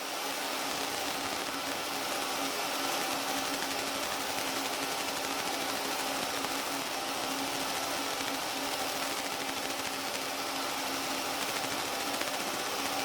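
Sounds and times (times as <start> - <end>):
laser engraver buzzing hum: 0.0 - 13.0.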